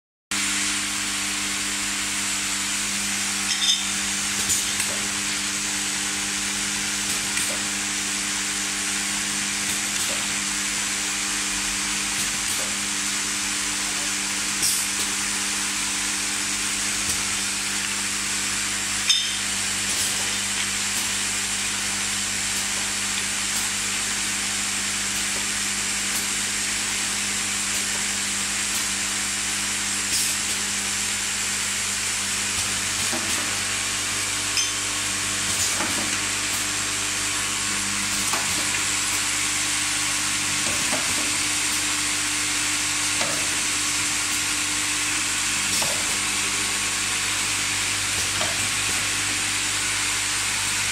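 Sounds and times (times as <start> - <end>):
machine hiss: 0.4 - 50.9.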